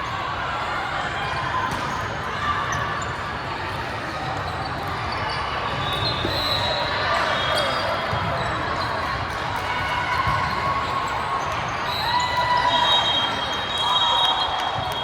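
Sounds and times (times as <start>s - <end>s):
hubbub of voices: 0.0s - 15.0s.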